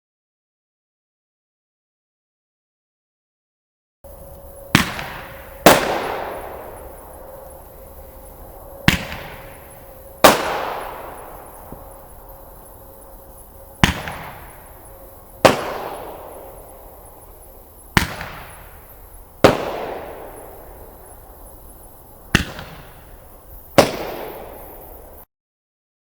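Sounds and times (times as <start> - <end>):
firework bangs: 4.1 - 25.2.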